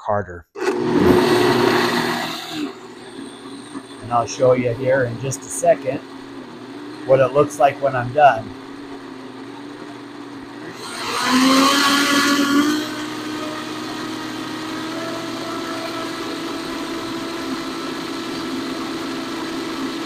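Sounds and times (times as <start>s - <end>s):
blender running: 0.6s - 20.0s.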